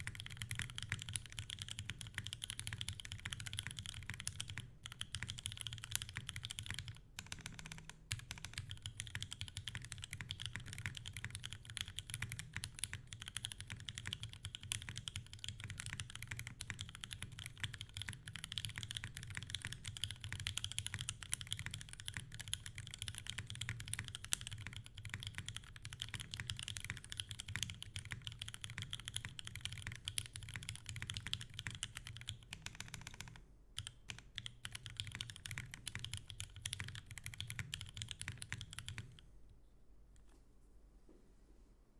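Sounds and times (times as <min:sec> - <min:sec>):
mechanical keyboard typing: 0:00.0 - 0:39.2.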